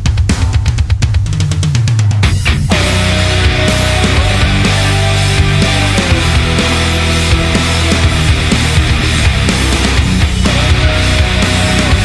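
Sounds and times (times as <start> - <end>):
distorted guitars: 0.0 - 12.0
drum strokes: 0.0 - 12.0
heavy rock music: 0.0 - 12.0.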